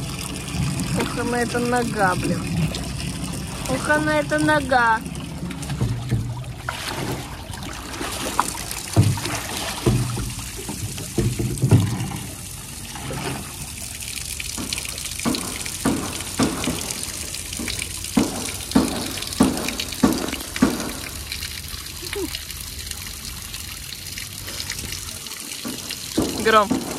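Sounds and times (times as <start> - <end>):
animal splashing water: 0.0 - 26.9
water pouring into metal tub: 0.0 - 26.9.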